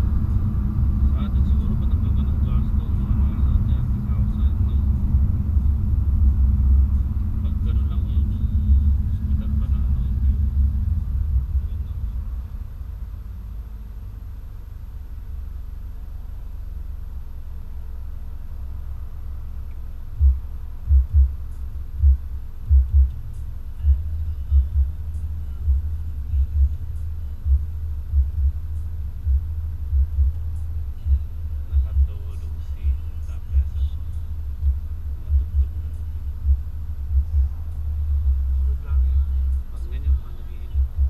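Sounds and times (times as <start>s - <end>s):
muffled deep thumping: 0.0s - 17.1s, 19.0s - 41.0s
car engine and tyres rumbling: 0.0s - 41.0s.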